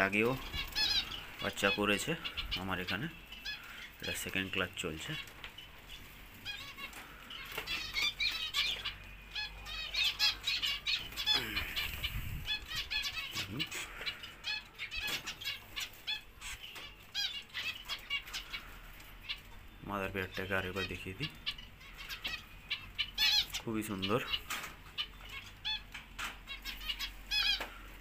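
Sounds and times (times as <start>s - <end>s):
finches chirping: 0.0s - 28.0s
lower falling bird calls: 0.0s - 28.0s.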